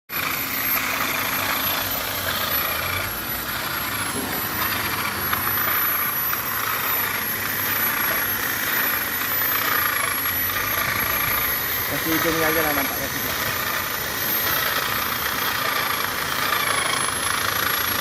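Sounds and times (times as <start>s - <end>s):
high-pitched whine: 0.1s - 18.0s
machine running: 0.1s - 18.0s.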